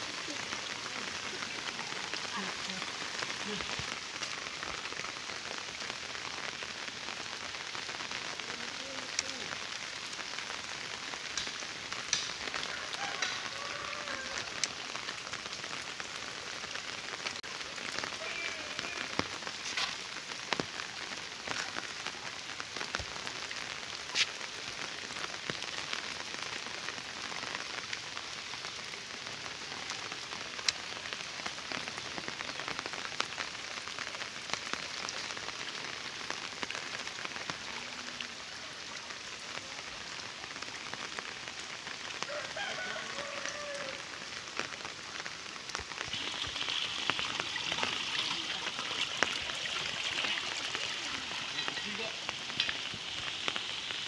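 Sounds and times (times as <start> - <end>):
rain on wet road: 0.0 - 54.0.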